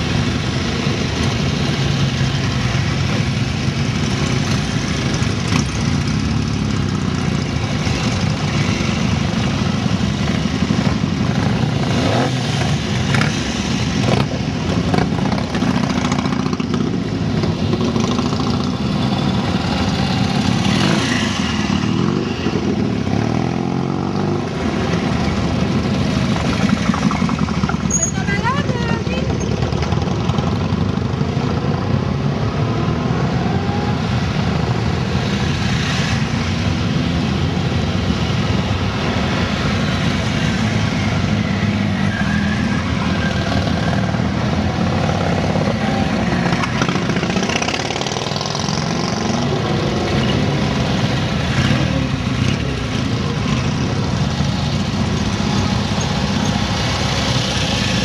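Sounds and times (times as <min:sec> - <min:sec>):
drone of motorcycles running: 0:00.0 - 0:58.0
motorcycles passing by: 0:00.0 - 0:58.0.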